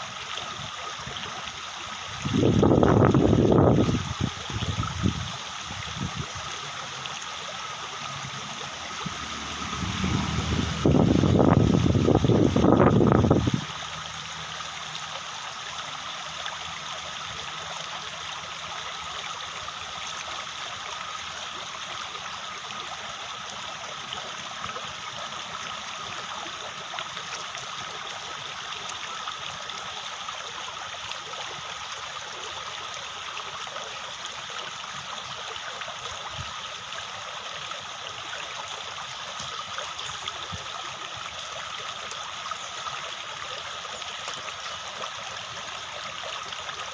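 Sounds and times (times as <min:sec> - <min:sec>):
water running steadily: 0:00.0 - 0:46.9.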